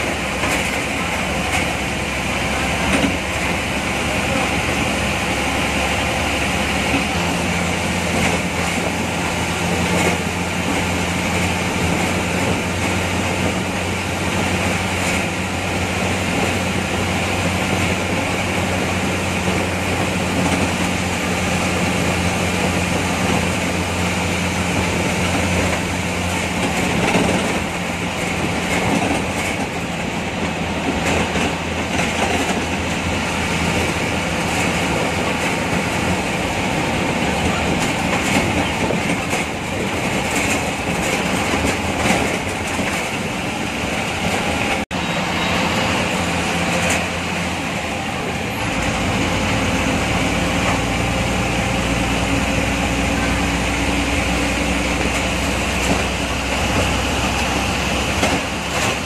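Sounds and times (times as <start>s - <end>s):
bus engine droning: 0.0s - 59.0s
road and cabin noise: 0.0s - 59.0s.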